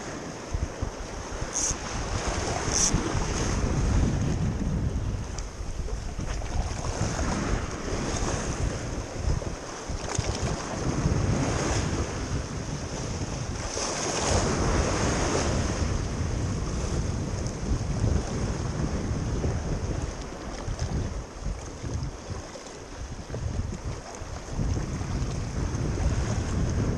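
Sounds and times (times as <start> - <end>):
waves breaking against rocks: 0.0 - 26.9
wind buffeting microphone: 0.0 - 26.9.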